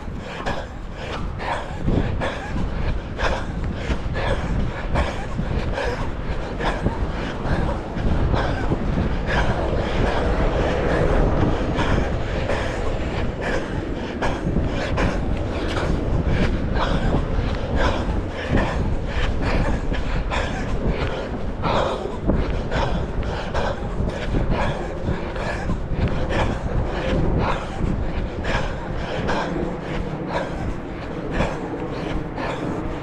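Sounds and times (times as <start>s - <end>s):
running footsteps: 0.0s - 33.0s
wind buffeting microphone: 0.0s - 33.0s.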